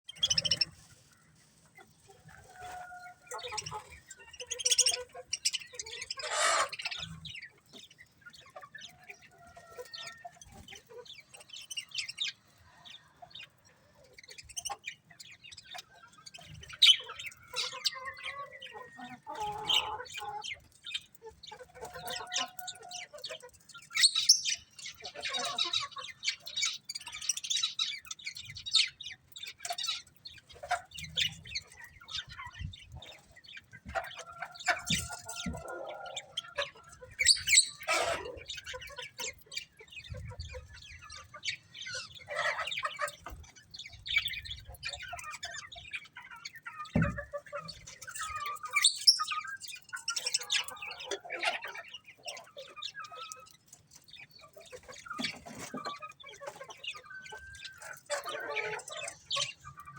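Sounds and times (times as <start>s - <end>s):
budgerigars chirping: 0.1s - 0.9s, 2.6s - 59.9s.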